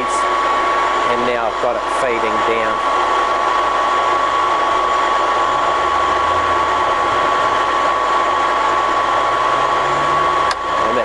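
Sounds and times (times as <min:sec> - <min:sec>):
drill machine running with whine: 0:00.0 - 0:11.0.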